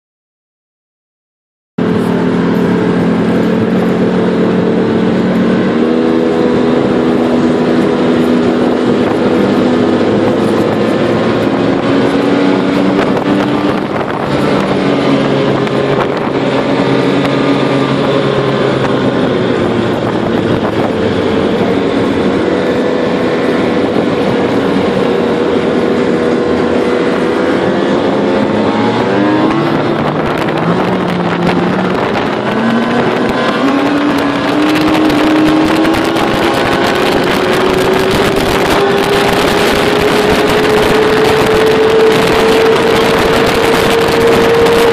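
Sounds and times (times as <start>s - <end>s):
vehicle engine under load: 1.8s - 44.9s.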